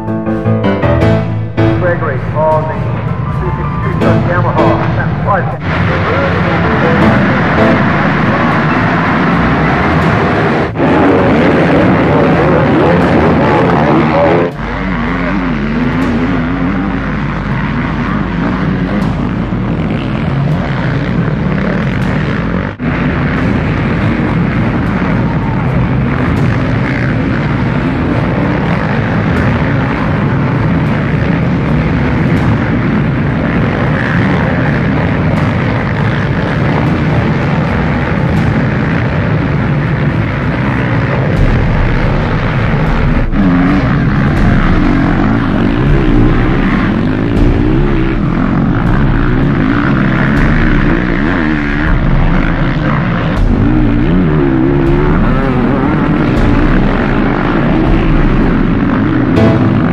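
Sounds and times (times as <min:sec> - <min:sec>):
motocross bike engines racing: 0:01.0 - 0:59.9.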